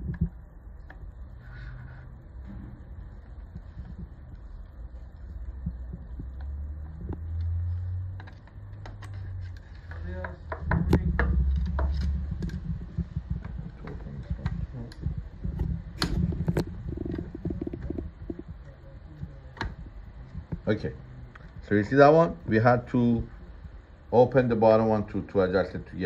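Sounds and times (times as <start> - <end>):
low rumble of handling noise: 0.0 - 24.6.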